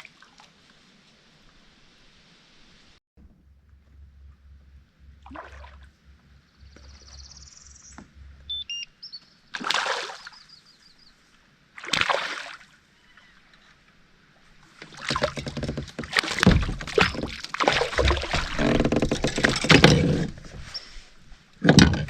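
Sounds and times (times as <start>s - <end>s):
water splashing and sloshing: 0.0s - 1.9s, 3.2s - 8.5s, 9.4s - 22.0s.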